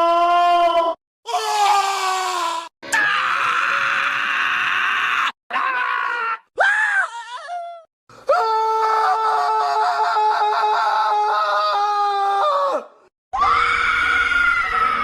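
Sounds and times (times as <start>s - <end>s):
cartoon character screaming: 0.0s - 15.0s.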